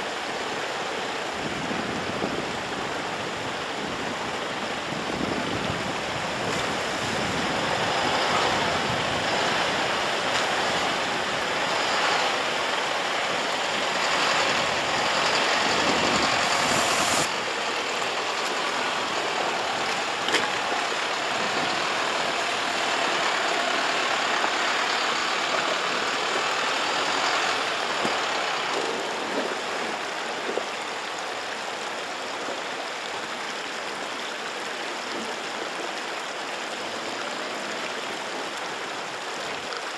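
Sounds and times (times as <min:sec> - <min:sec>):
diesel truck engine running slowly: 0:00.0 - 0:39.9
stream rushing water: 0:00.0 - 0:39.9.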